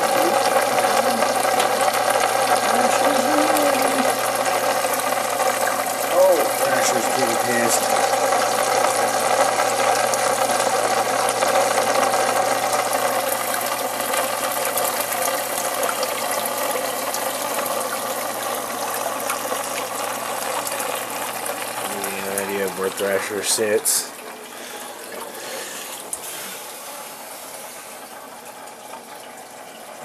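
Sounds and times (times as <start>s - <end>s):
aquarium pump humming: 0.0s - 30.0s.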